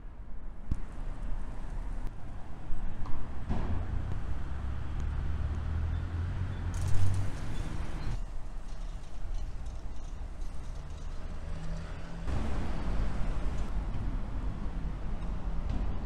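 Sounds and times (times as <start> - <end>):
steady traffic noise: 0.0 - 16.0
passing vehicle engine rumble: 1.5 - 16.0.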